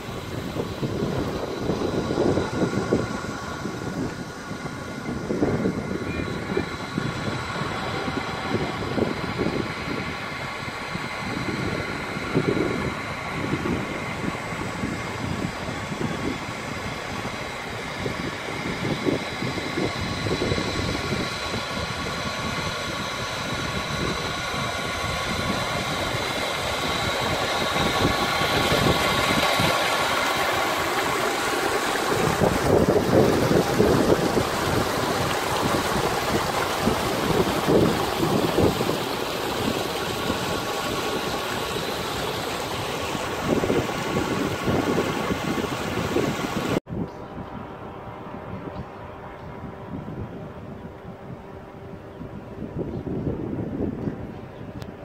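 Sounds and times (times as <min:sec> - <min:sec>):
water rushing from a pipe: 0:00.0 - 0:46.8
engine running steadily: 0:00.0 - 0:55.0
wind gusting on microphone: 0:00.0 - 0:55.0.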